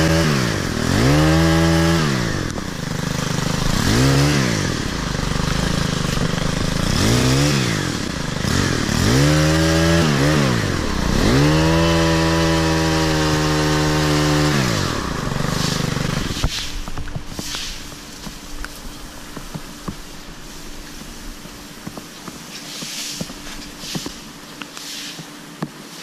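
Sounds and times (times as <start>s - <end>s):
hedge trimmer engine: 0.0s - 24.4s
leaves rustling: 2.2s - 26.0s.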